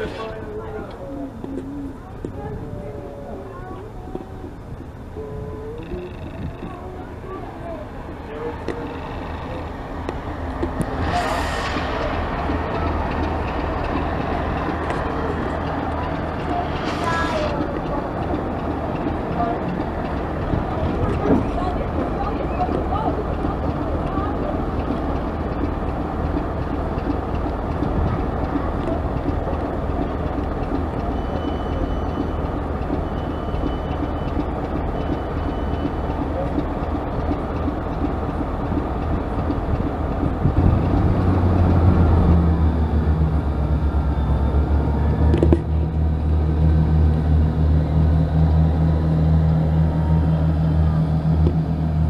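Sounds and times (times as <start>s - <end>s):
train rumbling on track: 0.0s - 52.0s.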